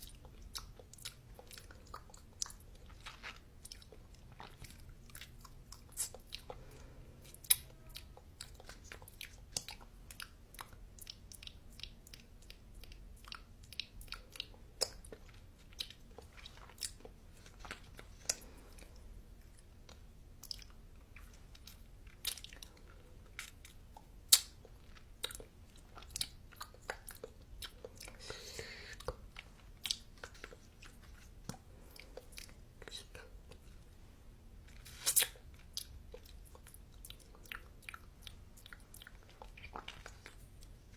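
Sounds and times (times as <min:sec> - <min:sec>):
crunchy food chewing: 0:00.0 - 0:33.9, 0:34.6 - 0:40.9.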